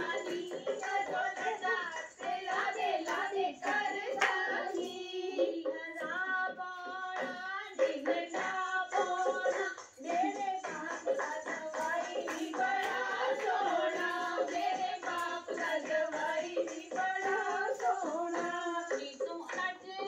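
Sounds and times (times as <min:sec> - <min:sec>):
song with singing over beat: 0:00.0 - 0:20.0.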